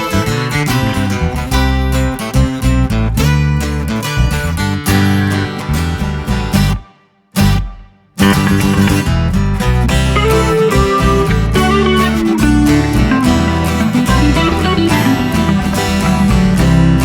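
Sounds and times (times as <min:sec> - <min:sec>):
strummed guitar music: 0:00.0 - 0:17.0.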